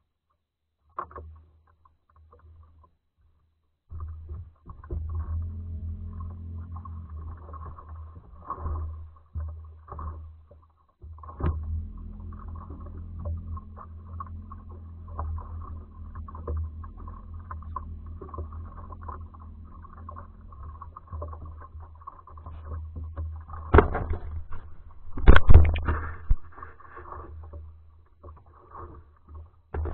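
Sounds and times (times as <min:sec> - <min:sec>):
boat low hum and rumble: 0:00.0 - 0:29.9.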